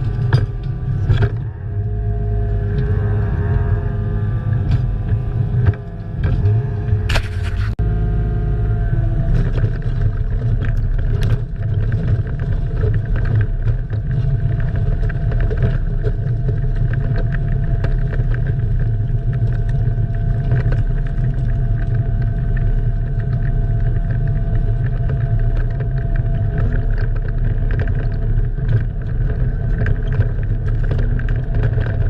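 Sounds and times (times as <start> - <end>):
excavator diesel engine rumble: 0.0 - 32.0.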